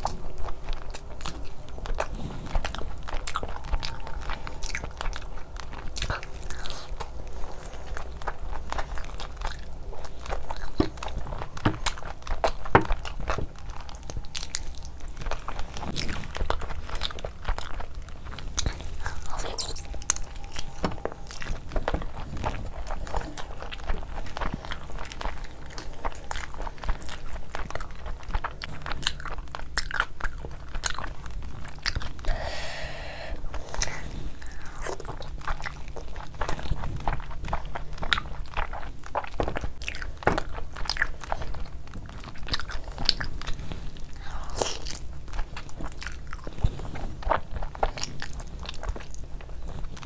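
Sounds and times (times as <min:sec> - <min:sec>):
person chewing food: 0:00.0 - 0:50.0.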